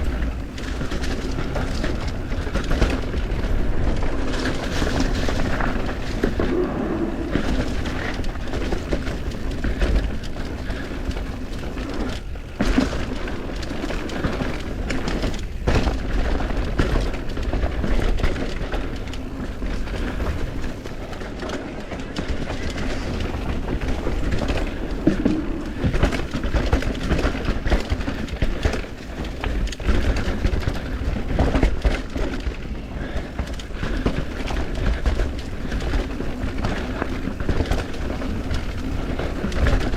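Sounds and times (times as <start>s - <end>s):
bike knocks and rattles: 0.0s - 6.7s, 7.3s - 39.9s
wind and tyre rumble: 0.0s - 39.9s.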